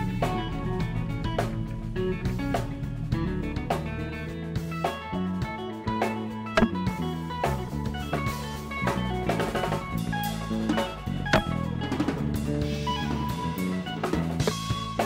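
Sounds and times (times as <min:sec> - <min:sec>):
band music with drums guitar bass: 0:00.0 - 0:15.0.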